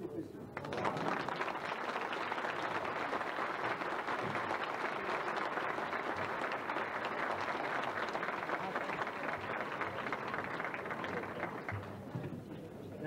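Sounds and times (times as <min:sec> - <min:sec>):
audience applauding: 0:00.6 - 0:12.1.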